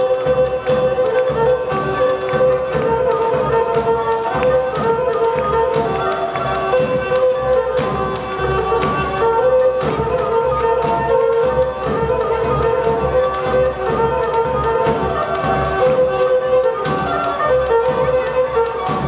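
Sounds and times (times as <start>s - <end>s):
drum beats: 0.0s - 19.0s
live band playing folk dance music: 0.0s - 19.0s.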